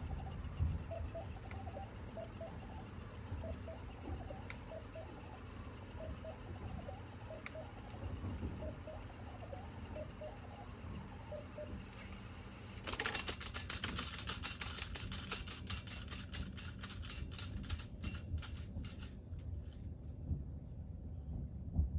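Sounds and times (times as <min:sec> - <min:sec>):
tape reels winding fast: 0:00.0 - 0:19.2
rapid clicks: 0:00.0 - 0:19.3.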